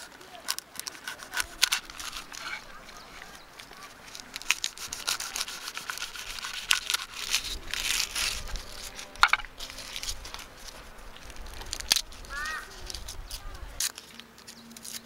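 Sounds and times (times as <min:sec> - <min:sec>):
garlic skins crinkling and tearing: 0:00.0 - 0:15.0.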